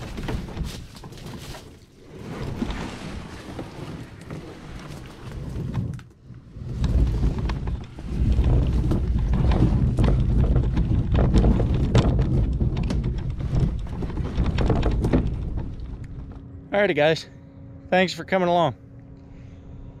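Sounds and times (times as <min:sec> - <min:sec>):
kayak knocks and bumps: 0:00.0 - 0:16.4
kayak hull scraping over ground: 0:00.0 - 0:17.0.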